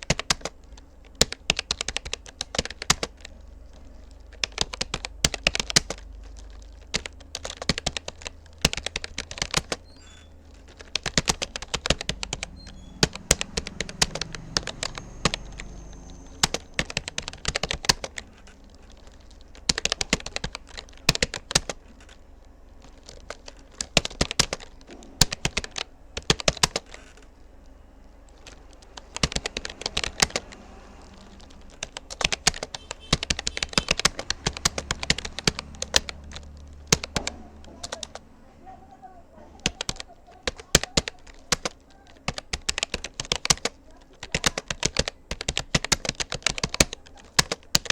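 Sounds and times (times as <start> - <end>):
keyboard typing clicks: 0.0 - 38.4, 39.3 - 47.9.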